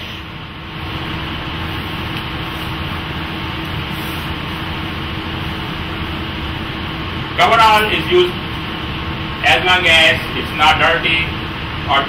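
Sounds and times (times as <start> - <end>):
ventilation hum and hiss: 0.0 - 12.0.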